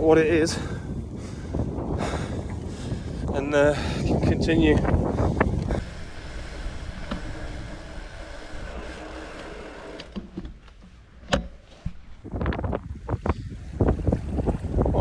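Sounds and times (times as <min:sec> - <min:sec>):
bike tyres and freehub whirring: 0:00.0 - 0:15.0.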